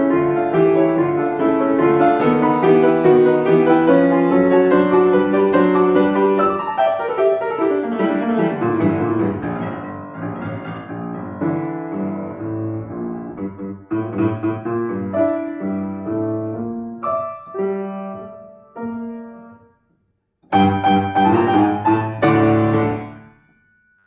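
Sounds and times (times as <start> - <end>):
loud piano chords: 0.0 - 19.9, 20.5 - 23.8
piano playing classical music: 0.0 - 23.6.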